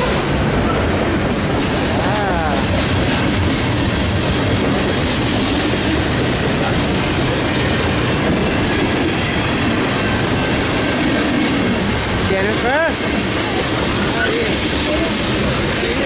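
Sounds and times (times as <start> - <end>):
freight train passing: 0.0 - 16.0
steel wheels rumbling on rails: 0.0 - 16.0.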